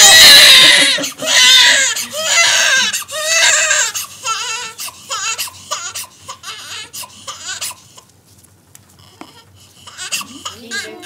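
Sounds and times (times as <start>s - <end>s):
newborn baby crying: 0.0s - 8.1s, 8.9s - 11.0s.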